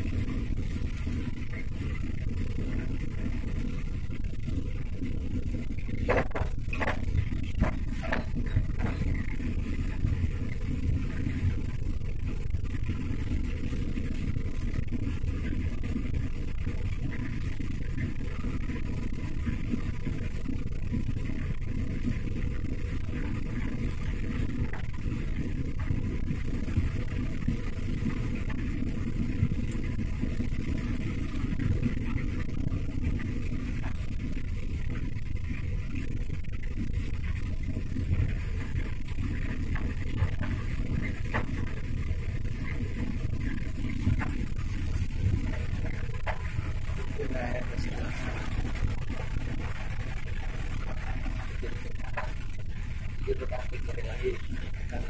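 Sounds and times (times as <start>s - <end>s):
tyre and engine rumble inside car: 0.0s - 55.0s.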